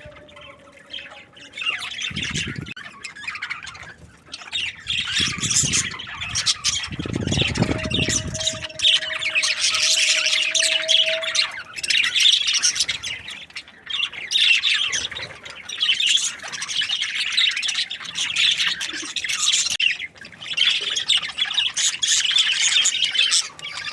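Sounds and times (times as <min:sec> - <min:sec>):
budgerigars chattering: 0:00.0 - 0:23.9.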